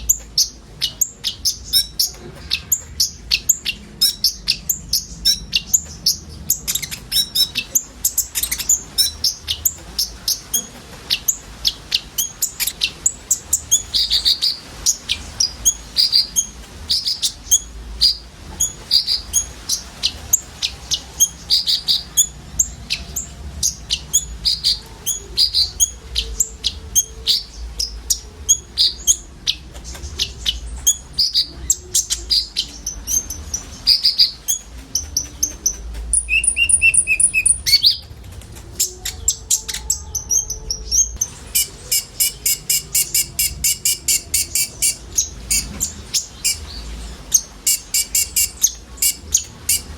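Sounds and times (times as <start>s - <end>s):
buzzy bird trill: 0.0s - 38.0s, 38.8s - 49.9s
birds chirping: 0.0s - 49.9s.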